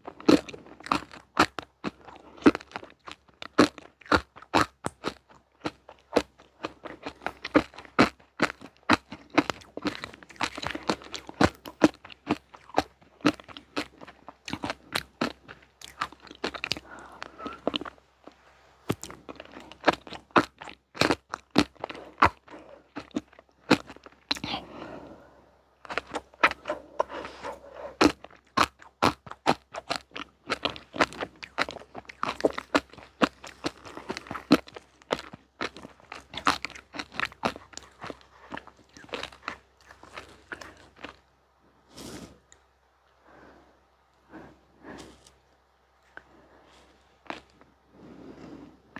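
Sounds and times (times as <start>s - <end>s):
crunching and chewing snacks: 0.0s - 25.2s, 25.8s - 43.2s, 44.1s - 48.9s.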